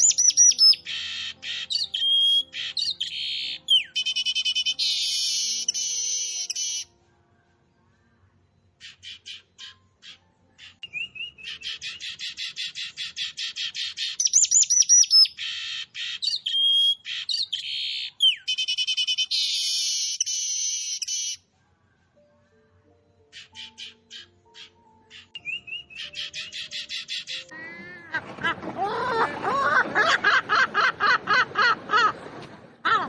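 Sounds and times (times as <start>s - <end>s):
small bird singing: 0.0s - 27.6s.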